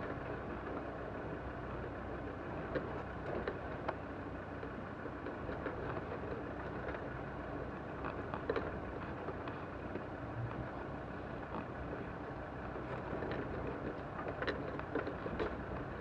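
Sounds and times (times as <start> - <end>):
vehicle engine and tyre noise: 0.0 - 16.0.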